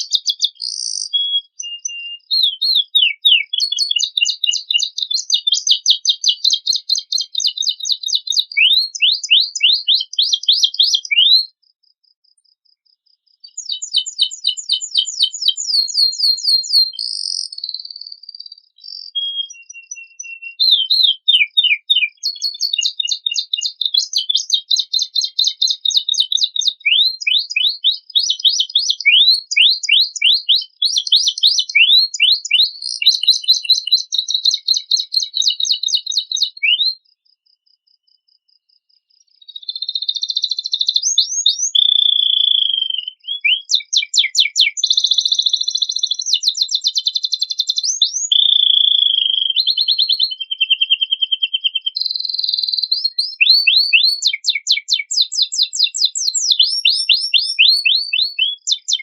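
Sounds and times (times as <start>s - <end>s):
canary singing: 0.0s - 11.6s, 13.4s - 37.0s, 39.4s - 59.0s.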